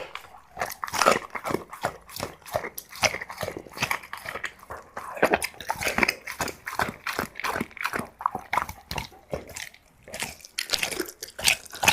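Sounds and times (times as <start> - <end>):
dog chewing wet food: 0.0 - 11.9.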